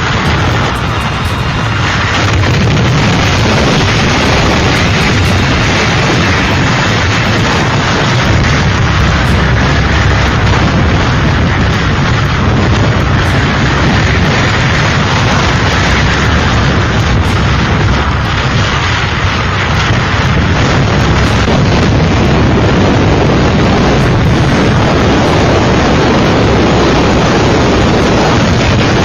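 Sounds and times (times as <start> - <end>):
strong wind on microphone: 0.0 - 29.0.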